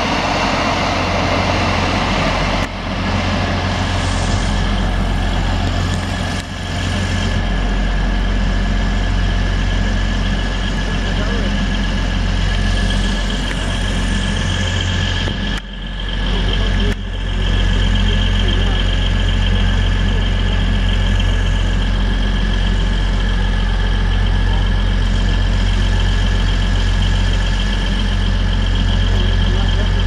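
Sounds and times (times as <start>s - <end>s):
diesel train engines droning: 0.0s - 30.0s.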